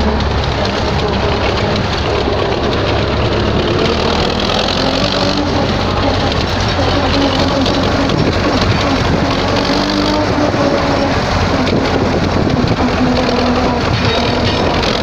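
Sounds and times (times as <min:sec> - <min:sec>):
tractor diesel engine droning: 0:00.0 - 0:15.0.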